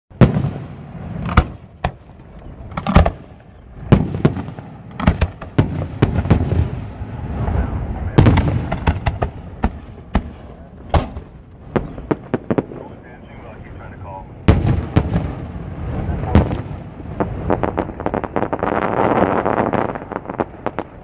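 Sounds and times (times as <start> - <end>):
fireworks bangs: 0.1 - 21.0.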